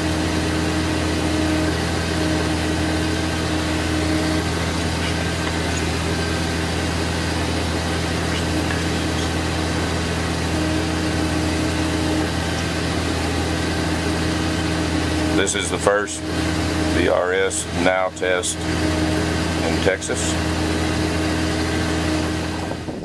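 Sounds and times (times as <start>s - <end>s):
high whine: 0.0s - 23.0s
tractor diesel engine running: 0.0s - 23.0s.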